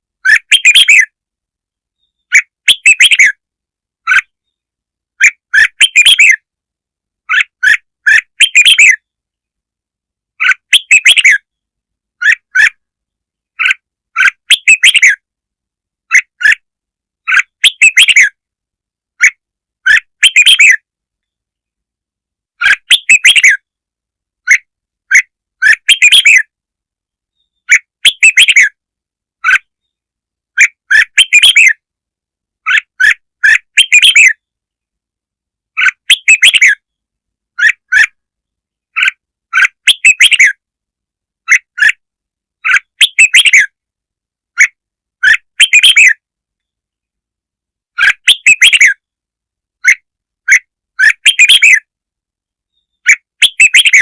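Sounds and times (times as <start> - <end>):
bird chirping song: 0.2 - 6.6, 7.2 - 9.6, 10.3 - 15.4, 16.0 - 18.5, 19.2 - 21.8, 22.5 - 31.9, 32.6 - 35.0, 35.7 - 40.8, 41.4 - 42.0, 42.6 - 43.8, 44.5 - 47.2, 47.9 - 49.2, 49.8 - 54.0.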